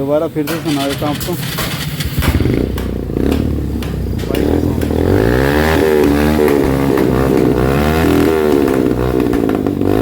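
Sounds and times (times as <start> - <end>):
motorcycle revving: 0.5 - 10.0.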